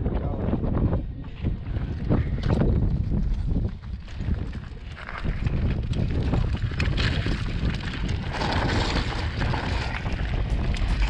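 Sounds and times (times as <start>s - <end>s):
wind buffeting microphone: 0.0s - 11.0s
bike rattling: 1.4s - 11.0s
tyres crunching over stones: 1.4s - 11.0s.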